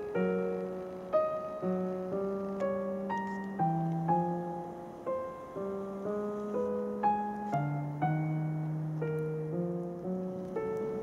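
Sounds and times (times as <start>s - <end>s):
slow solo piano: 0.0s - 11.0s.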